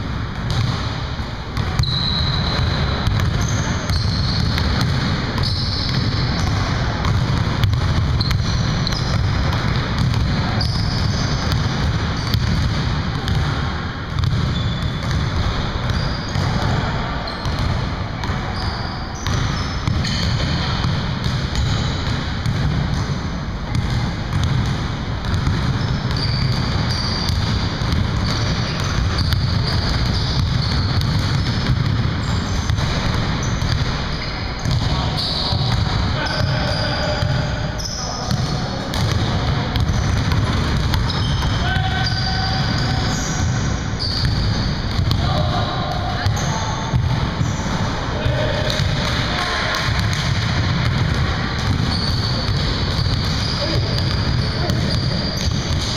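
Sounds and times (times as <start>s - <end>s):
basketballs bouncing on wooden floor: 0.3s - 55.9s
sneaker squeaks: 1.6s - 12.7s, 14.2s - 55.9s.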